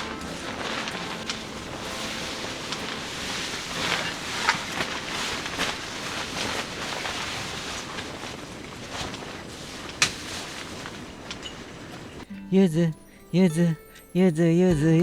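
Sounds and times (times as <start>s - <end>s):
wood fire crackling: 0.0s - 12.3s.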